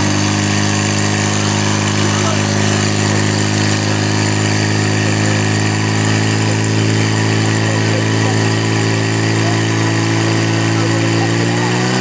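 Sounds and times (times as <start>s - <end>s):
pump engine droning: 0.0s - 12.0s.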